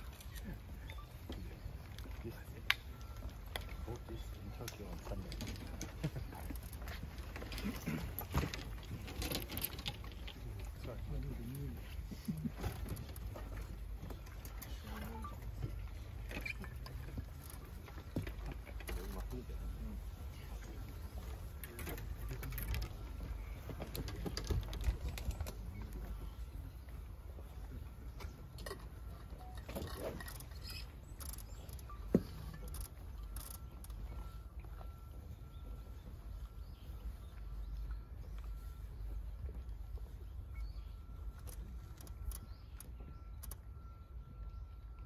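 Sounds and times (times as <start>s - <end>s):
distant voices murmuring: 0.0s - 45.0s
low steady rumble: 0.0s - 45.0s.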